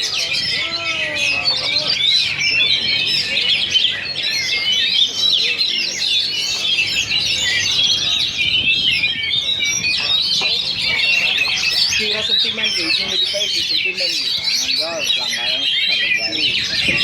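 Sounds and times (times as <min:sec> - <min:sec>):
birds singing whistles and trills: 0:00.0 - 0:17.0.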